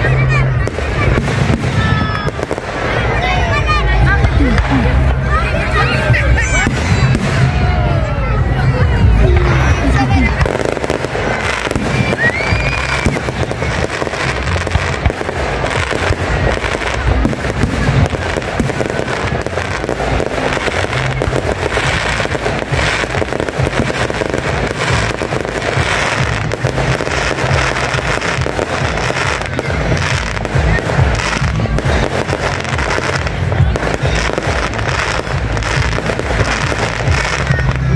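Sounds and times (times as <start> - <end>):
crackling fireworks stars: 0.0 - 37.9
fireworks bursts and bangs: 0.0 - 37.9.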